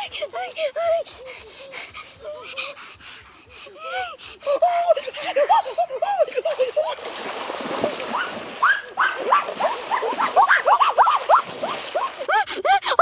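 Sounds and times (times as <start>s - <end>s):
person wading through water: 1.0s - 13.0s.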